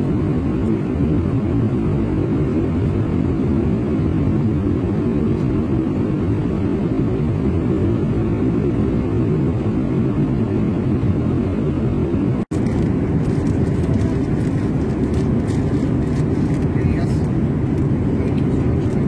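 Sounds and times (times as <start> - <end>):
airliner cabin roar: 0.0 - 19.0.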